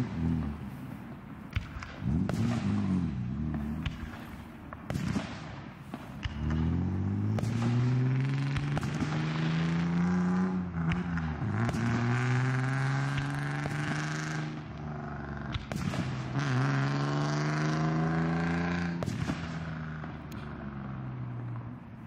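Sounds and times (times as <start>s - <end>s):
distant fireworks bursting: 0.0s - 16.7s, 18.3s - 22.0s
vehicle engine humming: 0.0s - 22.0s.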